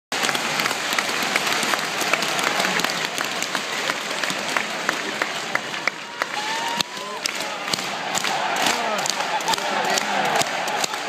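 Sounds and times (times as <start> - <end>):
crowd clapping: 0.1 - 11.0
crowd murmur: 0.2 - 11.0.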